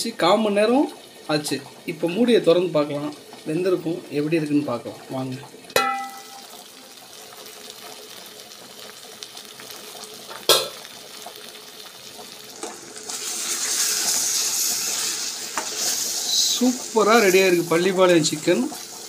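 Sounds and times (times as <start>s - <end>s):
gravy sizzling in a pan: 0.0s - 19.0s.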